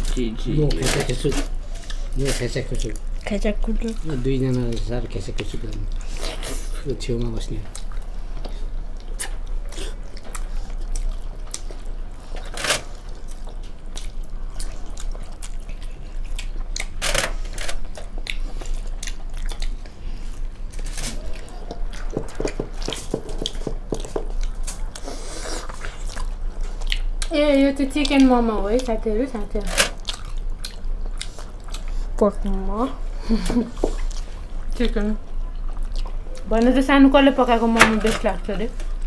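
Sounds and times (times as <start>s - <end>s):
people chewing dumplings: 0.0s - 37.6s.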